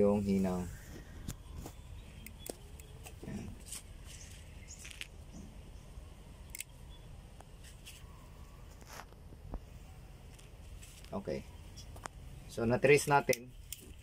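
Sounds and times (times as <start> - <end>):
low steady rumble: 0.0 - 12.8.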